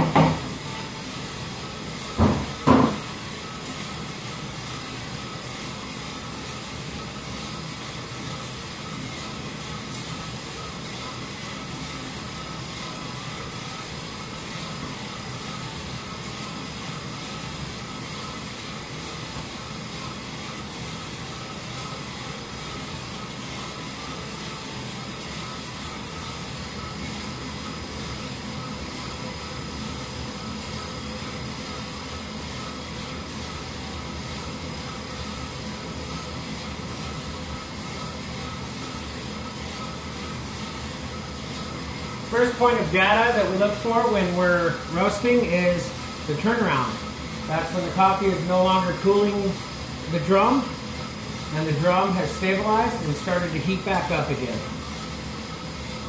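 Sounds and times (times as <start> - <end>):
coffee roaster humming: 0.0 - 56.0.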